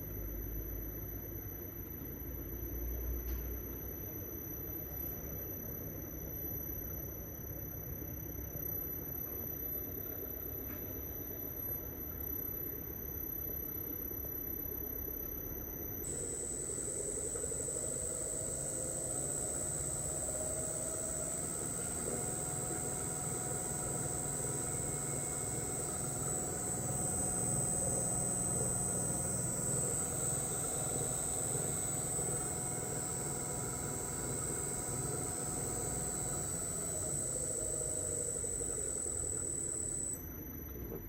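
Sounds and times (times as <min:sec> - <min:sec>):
high-pitched drive whine: 0:00.0 - 0:41.0
motor tone falling: 0:00.0 - 0:41.0.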